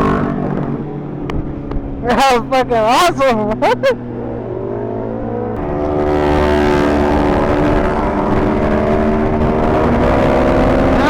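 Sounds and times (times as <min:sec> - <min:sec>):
motorcycle engine: 0:00.0 - 0:11.0
wind and road noise: 0:00.0 - 0:11.0.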